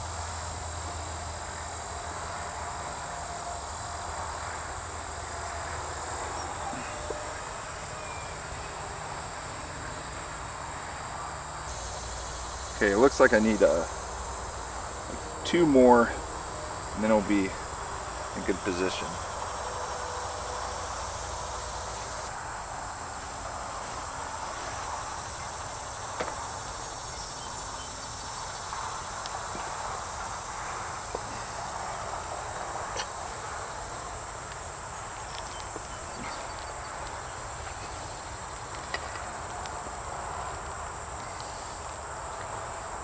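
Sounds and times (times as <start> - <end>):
insect chorus buzzing: 0.0 - 43.0.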